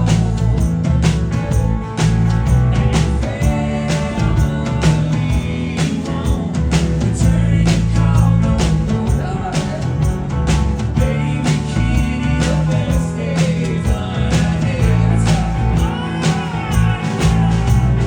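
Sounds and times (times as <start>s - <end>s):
drums keeping a steady beat: 0.0s - 18.0s
lead vocal singing: 0.0s - 18.0s
rock band playing live: 0.0s - 18.0s.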